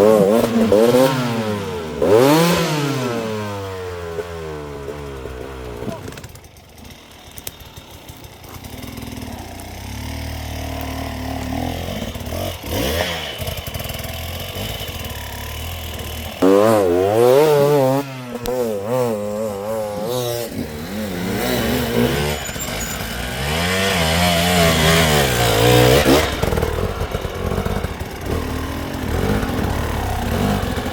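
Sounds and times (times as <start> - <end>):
dirt bike engines revving: 0.0 - 30.9.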